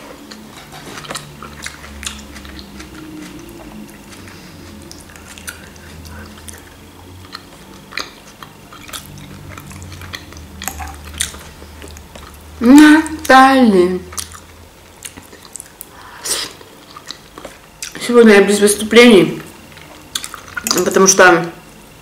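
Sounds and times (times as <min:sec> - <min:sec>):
wet chewing: 0:00.0 - 0:13.4, 0:14.0 - 0:18.1, 0:19.4 - 0:21.0.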